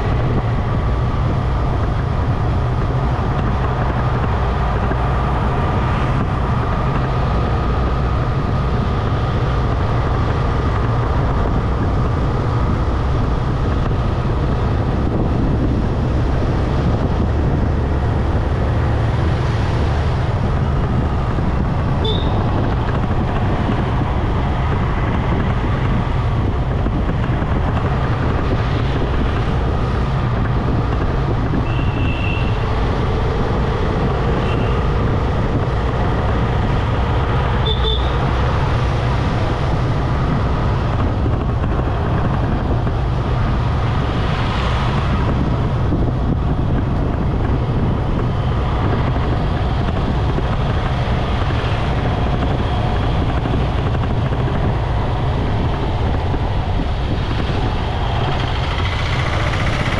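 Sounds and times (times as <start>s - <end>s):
motorcycle engine rumble: 0.0s - 59.9s
wind and tyre noise: 0.0s - 59.9s.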